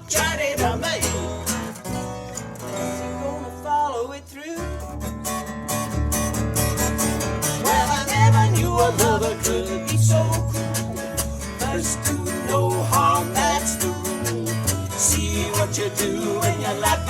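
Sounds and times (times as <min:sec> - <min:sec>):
bass guitar: 0:00.0 - 0:17.0.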